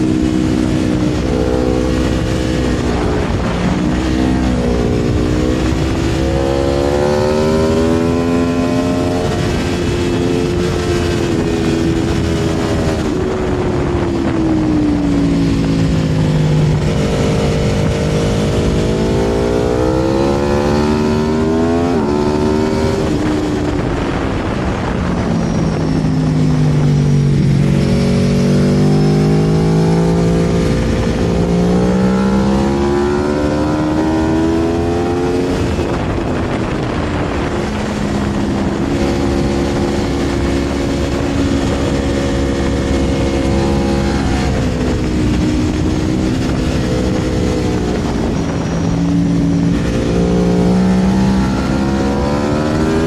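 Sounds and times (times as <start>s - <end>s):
motorcycle engine accelerating: 0.0s - 53.0s
wind rushing: 0.0s - 53.0s.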